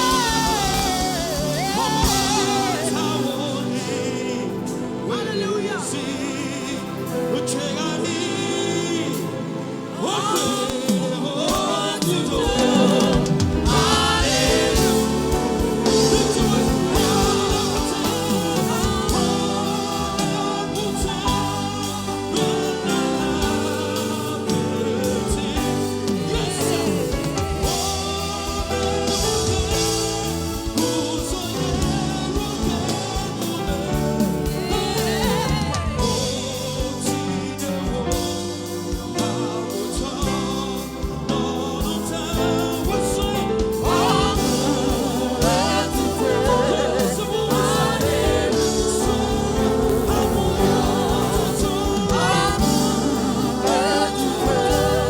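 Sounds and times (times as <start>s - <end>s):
instrumental accompaniment: 0.0s - 55.0s
person singing gospel: 0.0s - 55.0s.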